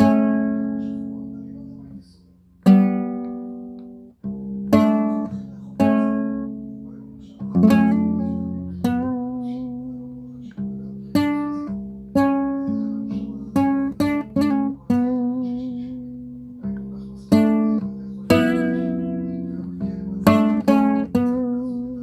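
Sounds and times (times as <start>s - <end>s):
guitar playing slow melody: 0.0s - 22.0s.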